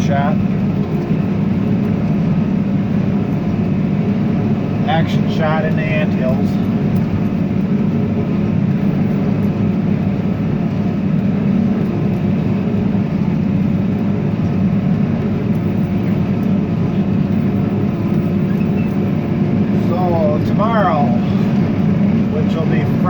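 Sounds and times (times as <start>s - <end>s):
tractor engine droning: 0.0s - 23.0s.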